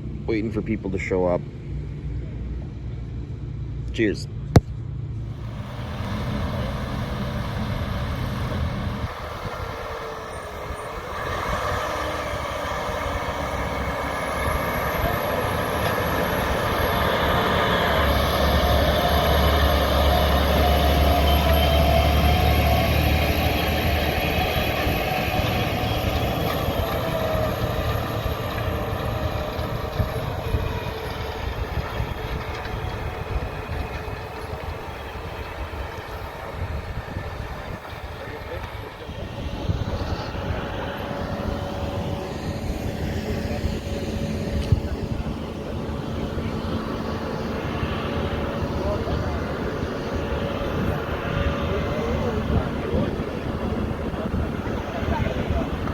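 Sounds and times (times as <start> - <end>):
farm sprayer diesel engine: 0.0 - 55.9.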